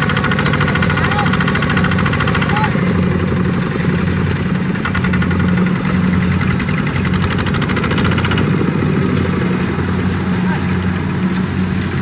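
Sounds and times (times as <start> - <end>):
tractor engine running steadily: 0.0 - 12.0.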